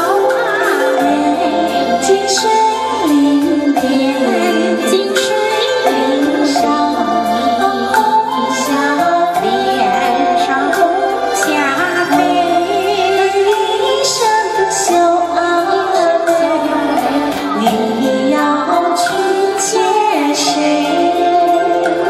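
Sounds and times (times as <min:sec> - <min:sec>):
karaoke backing track: 0:00.0 - 0:22.0
woman singing into a microphone: 0:00.0 - 0:22.0.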